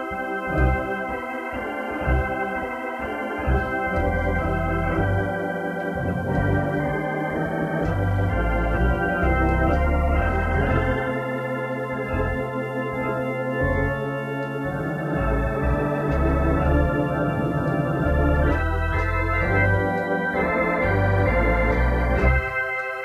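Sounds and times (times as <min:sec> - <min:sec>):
organ music: 0:00.0 - 0:23.0.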